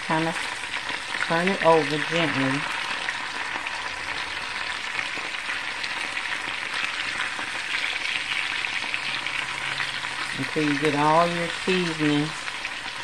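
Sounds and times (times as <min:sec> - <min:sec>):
potatoes sizzling in a skillet: 0:00.0 - 0:13.0.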